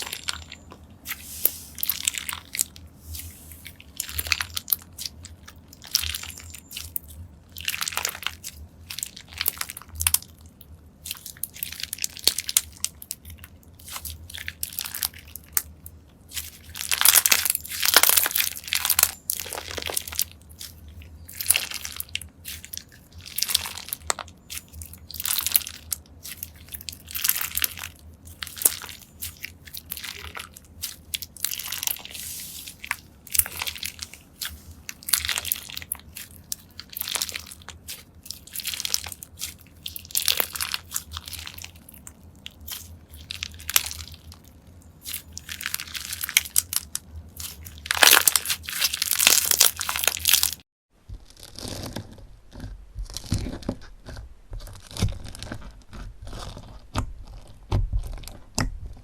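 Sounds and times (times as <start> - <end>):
slime crunching and crackling: 0.0 - 59.0.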